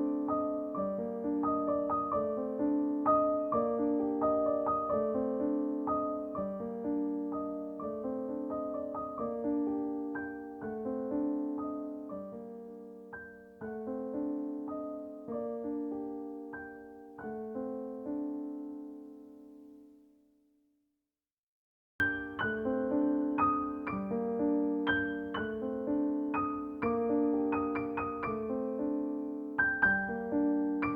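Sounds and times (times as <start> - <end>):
soft solo piano music: 0.0 - 20.2, 22.0 - 30.9.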